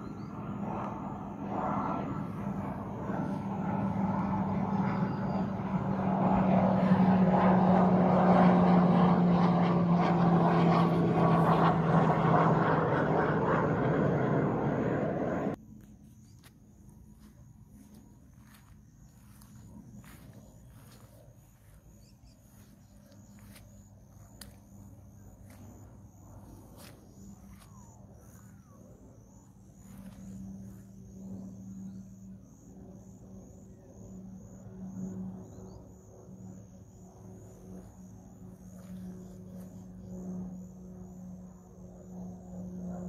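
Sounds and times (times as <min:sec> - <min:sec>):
distant aircraft engine drone: 0:00.0 - 0:43.0.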